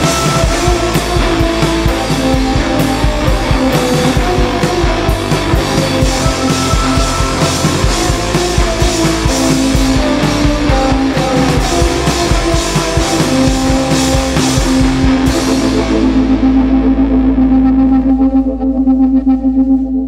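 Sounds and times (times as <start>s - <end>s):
rock band playing live: 0.0s - 19.2s
guitar chord ringing: 0.0s - 19.4s.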